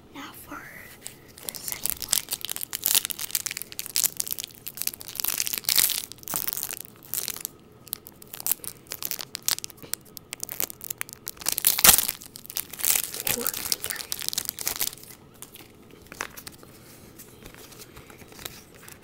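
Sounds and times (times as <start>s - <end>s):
foil wrapper tearing and crinkling: 1.0s - 16.6s.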